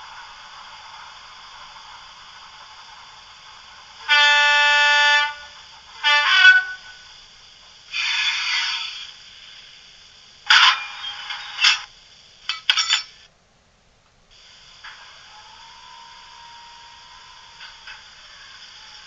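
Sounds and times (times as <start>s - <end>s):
loud hissing burst: 0.0s - 12.5s, 14.3s - 19.0s
steady quiet hiss: 0.0s - 19.0s.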